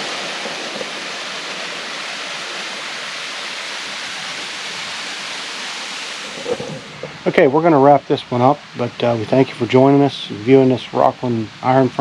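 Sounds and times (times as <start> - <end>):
water rushing through raceway: 0.0 - 12.0.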